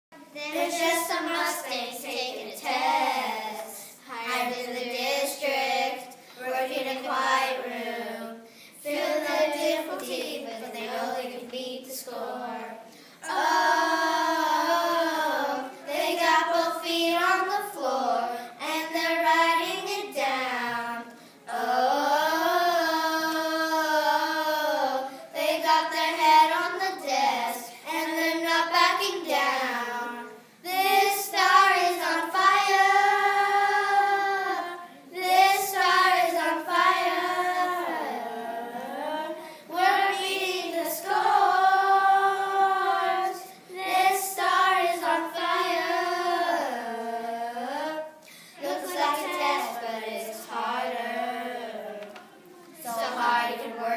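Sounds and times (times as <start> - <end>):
children singing together: 0.2 - 53.9.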